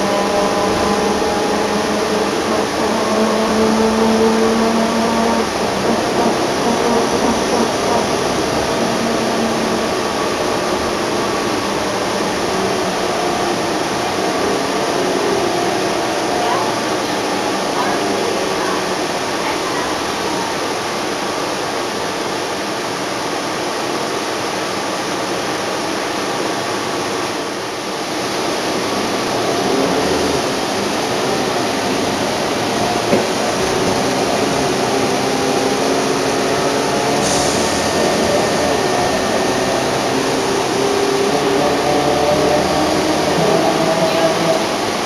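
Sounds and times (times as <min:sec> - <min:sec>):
bus engine running: 0:00.0 - 0:20.5, 0:28.2 - 0:45.0
road and cabin noise: 0:00.0 - 0:45.0.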